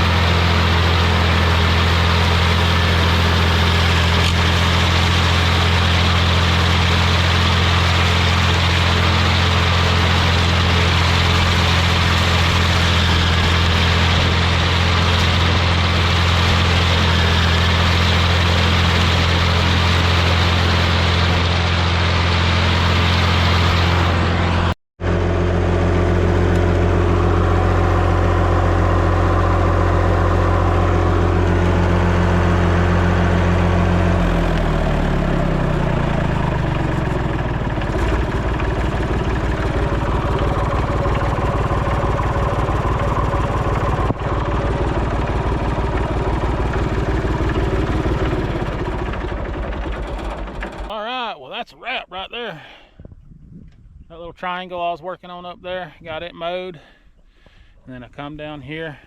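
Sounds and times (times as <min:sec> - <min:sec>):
tractor diesel engine: 0:00.0 - 0:52.9.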